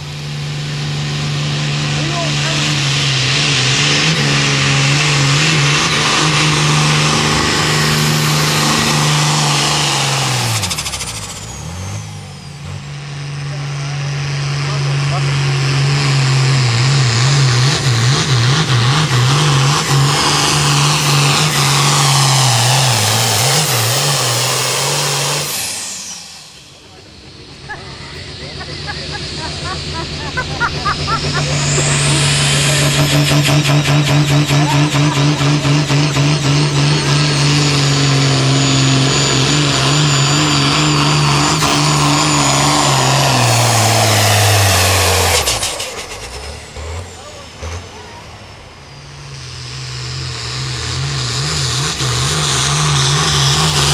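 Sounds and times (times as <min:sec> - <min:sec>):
high whine: 0:00.0 - 0:14.0, 0:14.7 - 0:53.9
tractor diesel engine at full throttle: 0:00.0 - 0:53.9.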